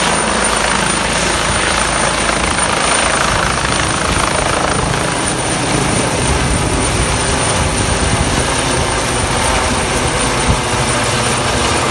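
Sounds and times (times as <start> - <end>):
helicopter rotor and engine noise: 0.0 - 11.9.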